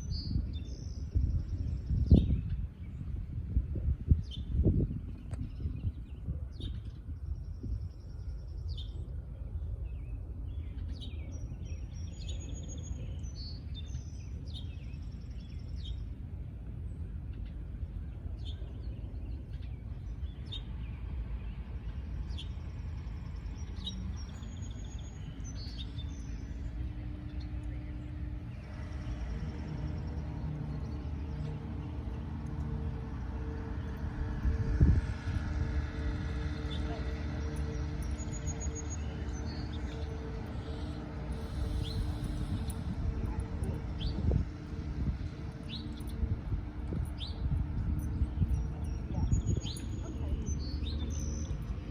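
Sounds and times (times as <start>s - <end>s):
faint low hum: 0.0s - 51.9s
low outdoor rumble: 0.0s - 51.9s
small birds chirping: 0.0s - 51.9s.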